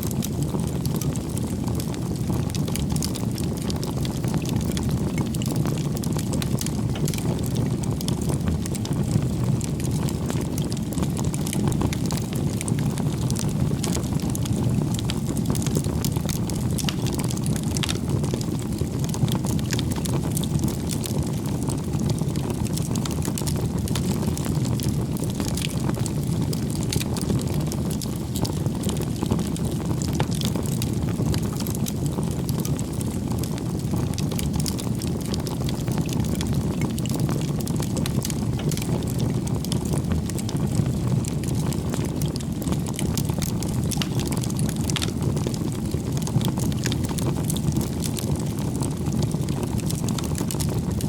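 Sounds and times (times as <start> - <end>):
fire crackling and popping: 0.0 - 51.0
rush of flames: 0.0 - 51.0.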